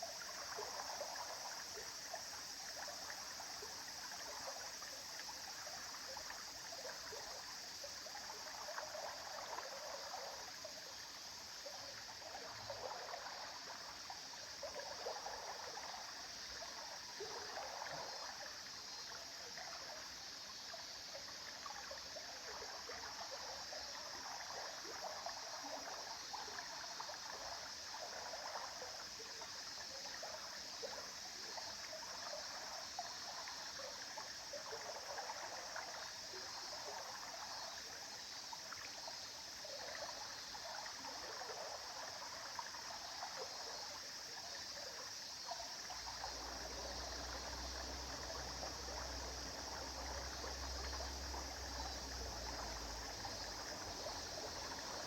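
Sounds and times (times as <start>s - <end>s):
stream babbling over stones: 10.3s - 55.0s.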